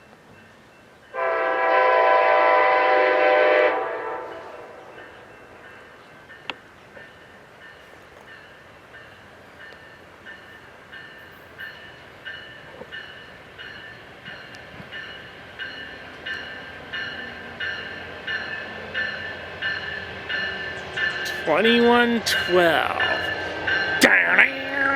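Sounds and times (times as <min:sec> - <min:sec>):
train rumble: 0:00.0 - 0:24.9.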